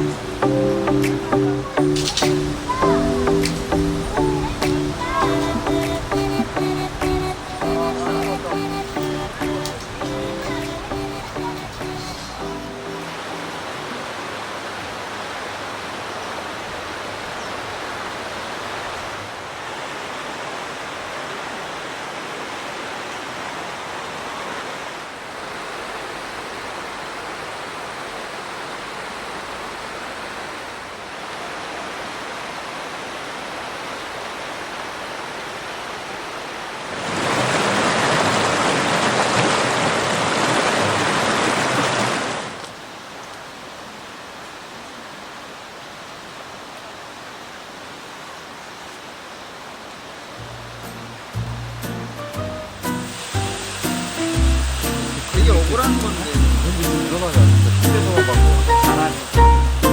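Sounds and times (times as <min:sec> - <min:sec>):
steady rushing outdoor noise: 0:00.0 - 0:59.9.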